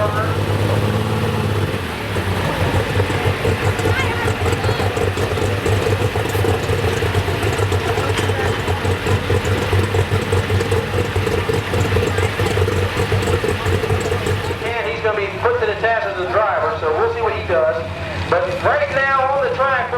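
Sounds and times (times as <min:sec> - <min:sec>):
tractor engine idling: 0:00.0 - 0:19.9.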